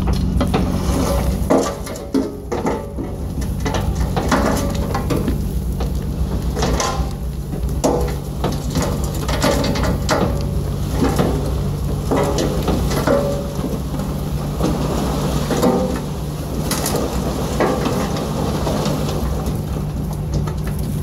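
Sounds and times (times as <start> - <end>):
dirt sliding and rattling: 0.0 - 21.0
truck engine running: 0.0 - 21.0.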